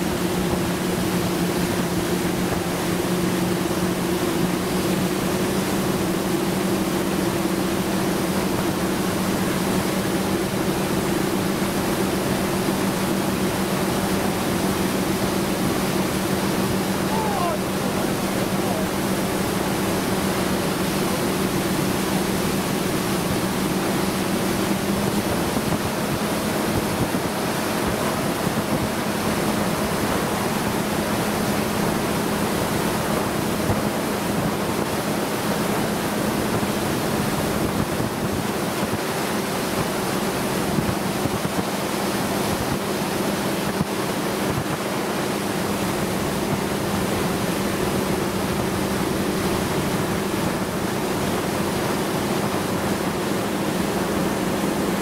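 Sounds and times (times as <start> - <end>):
boat engine droning: 0.0 - 55.0
water rushing: 0.0 - 55.0
wind: 0.0 - 55.0.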